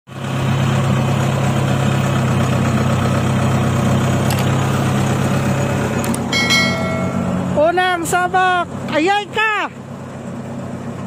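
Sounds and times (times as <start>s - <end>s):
combine harvester engine running: 0.1s - 11.0s.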